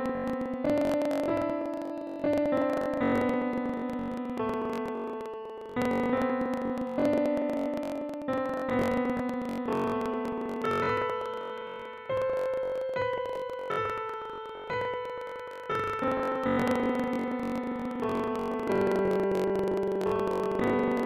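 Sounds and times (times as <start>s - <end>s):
slow keyboard melody: 0.0s - 21.0s.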